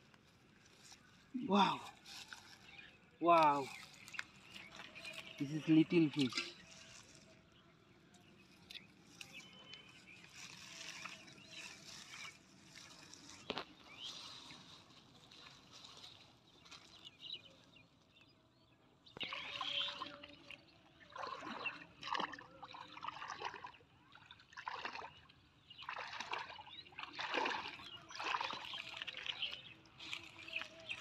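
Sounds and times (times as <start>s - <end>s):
shallow water sloshing and splashing: 0.0s - 7.6s, 8.2s - 18.2s, 19.1s - 31.0s.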